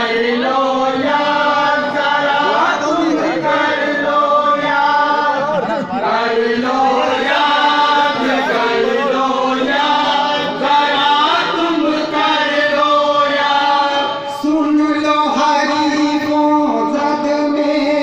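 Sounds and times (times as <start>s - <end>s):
man chanting into a microphone: 0.0s - 18.0s.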